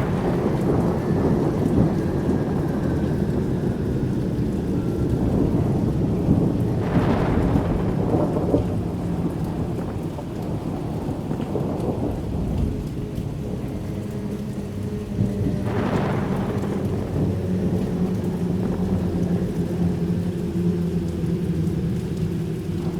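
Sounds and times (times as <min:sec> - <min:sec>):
faint low drone: 0:00.0 - 0:22.9
low thunderous rumble: 0:00.0 - 0:22.9.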